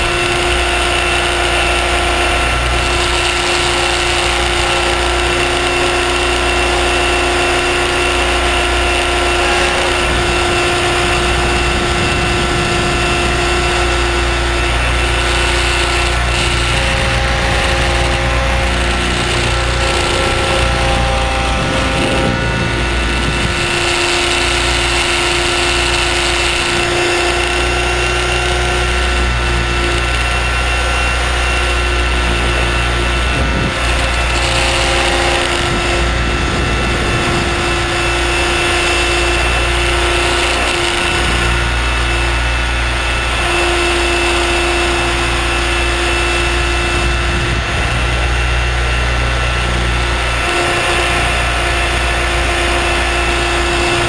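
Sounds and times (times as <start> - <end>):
helicopter motor whine: 0.0 - 54.0
rotor wash and wind rumble: 0.0 - 54.0.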